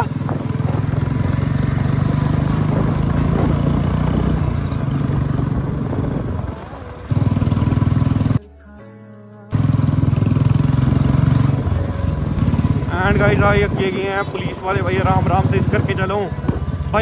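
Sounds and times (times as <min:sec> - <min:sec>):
motorcycle engine running loud: 0:00.0 - 0:08.4, 0:09.5 - 0:17.0.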